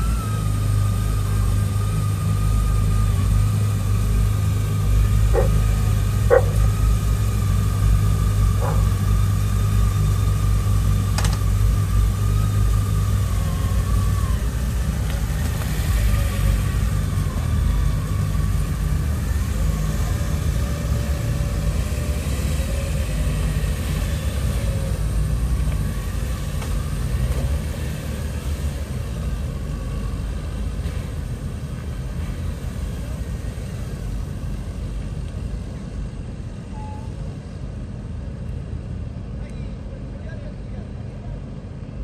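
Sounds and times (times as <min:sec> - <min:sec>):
motorcycle engines rumbling: 0:00.0 - 0:42.0.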